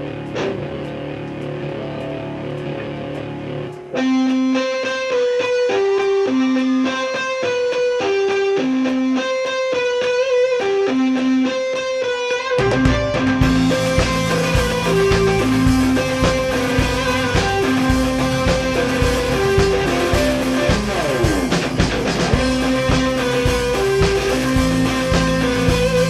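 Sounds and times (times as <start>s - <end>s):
guitar picking a riff: 0.0s - 26.0s
live rock band: 0.0s - 26.0s.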